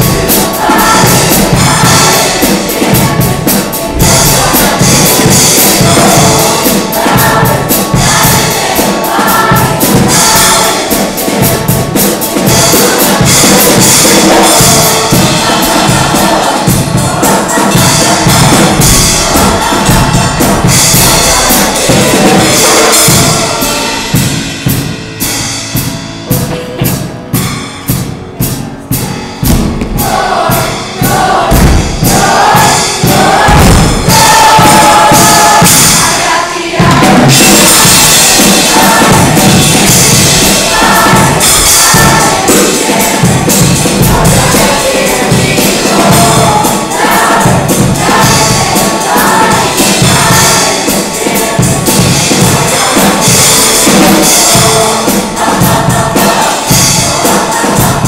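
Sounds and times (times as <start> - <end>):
choir singing: 0.0 - 26.6, 28.4 - 58.0
band music: 0.0 - 58.0
steady drum beat: 0.0 - 58.0.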